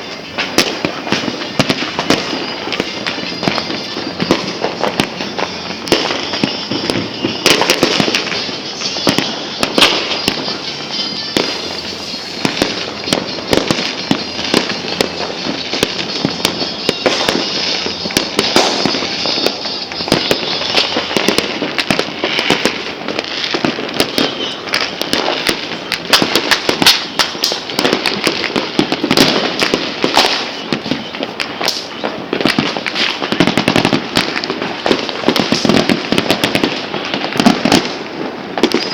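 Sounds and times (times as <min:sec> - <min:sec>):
fireworks and firecrackers banging: 0:00.0 - 0:38.9.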